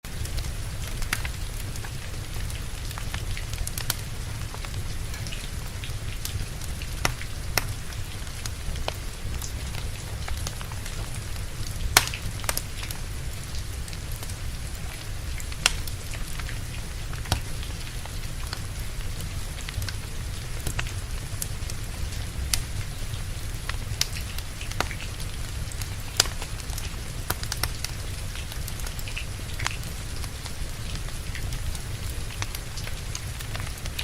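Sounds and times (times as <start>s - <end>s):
steady rain: 0.0s - 34.0s
wood fire crackling: 0.1s - 34.0s.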